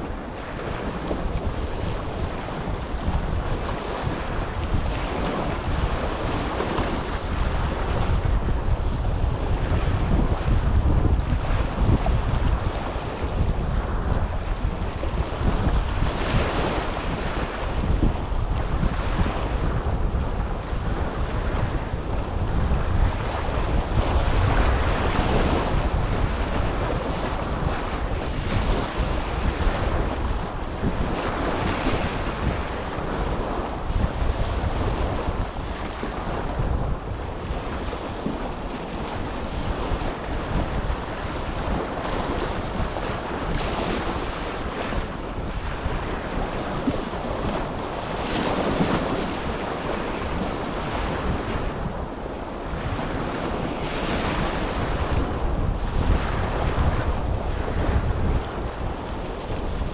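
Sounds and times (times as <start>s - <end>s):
small waves lapping on shore: 0.0s - 59.9s
wind buffeting microphone: 0.0s - 59.9s.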